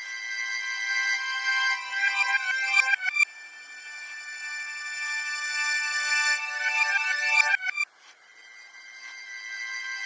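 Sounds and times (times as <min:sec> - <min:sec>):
reversed synthesized ringtone: 0:00.0 - 0:10.0.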